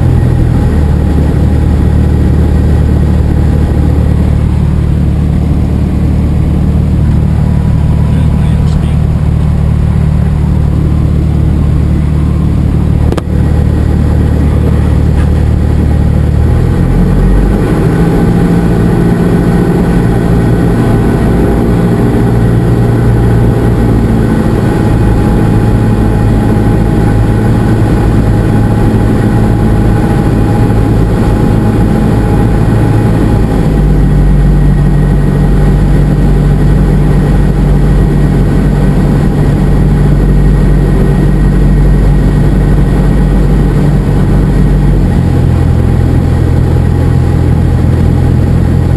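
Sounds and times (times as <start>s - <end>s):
piston engine and propeller: 0.0s - 48.9s.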